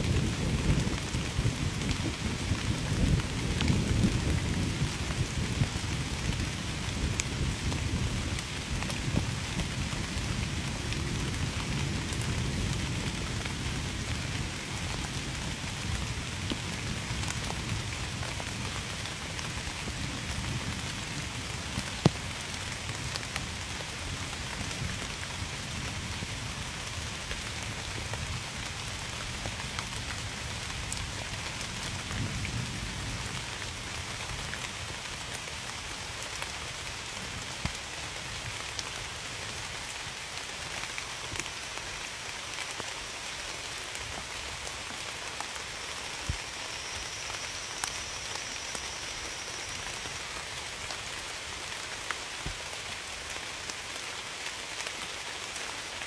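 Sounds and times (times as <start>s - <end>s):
raindrops striking close by: 0.0s - 56.0s
steady rain: 0.0s - 56.0s.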